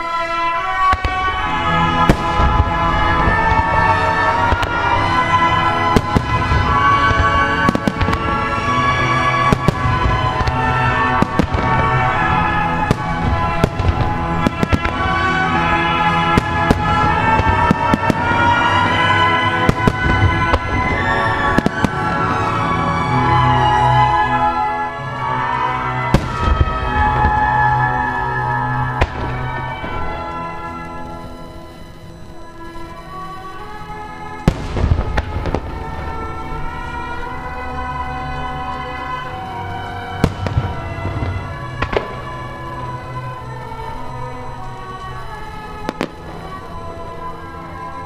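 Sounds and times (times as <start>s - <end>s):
fireworks bursting: 0.0s - 48.0s
music over outdoor loudspeakers: 0.0s - 48.0s.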